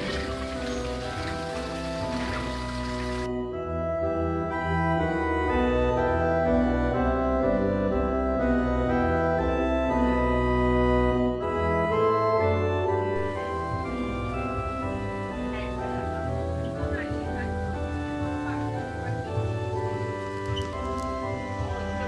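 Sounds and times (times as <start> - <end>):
organ playing slow chords: 0.0 - 22.0.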